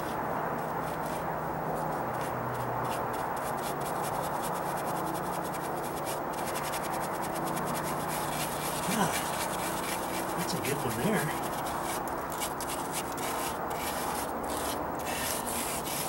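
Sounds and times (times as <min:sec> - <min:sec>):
brush scrubbing stucco: 0:00.0 - 0:16.0.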